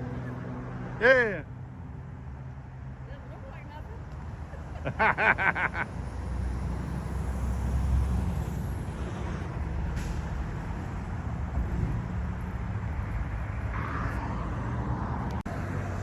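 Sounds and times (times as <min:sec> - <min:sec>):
motor vehicle engine rumble: 0:00.0 - 0:16.0.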